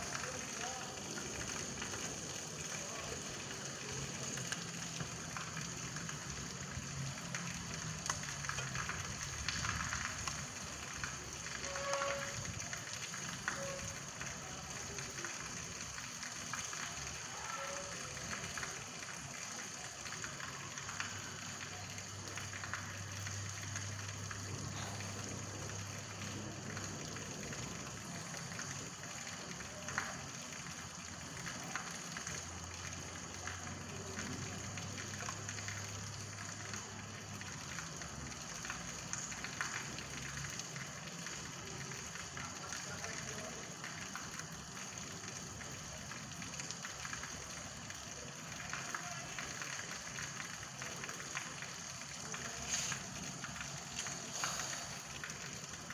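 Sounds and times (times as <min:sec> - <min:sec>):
drops ticking on a surface: 0:00.0 - 0:55.9
rain falling: 0:00.0 - 0:55.9.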